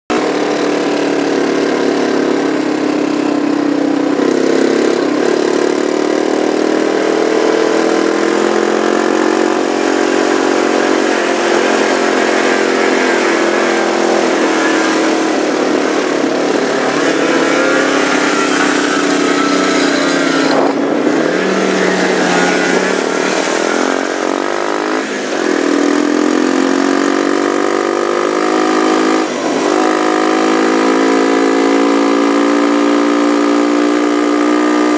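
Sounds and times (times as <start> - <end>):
snowmobile engine revving: 0.1 - 34.9.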